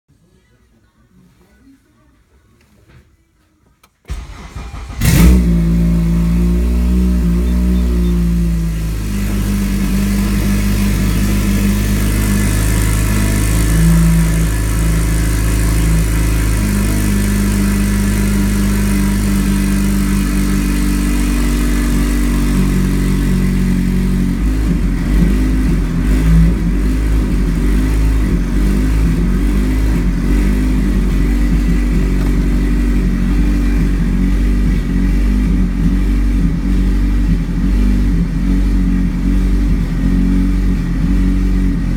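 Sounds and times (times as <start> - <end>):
car engine idling high: 4.1 - 41.9.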